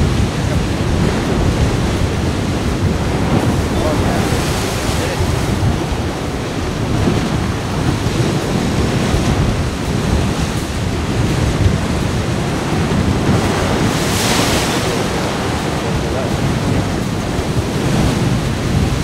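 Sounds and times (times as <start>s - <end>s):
surf crashing under rocks: 0.0s - 19.0s
wind buffeting microphone: 0.0s - 19.0s.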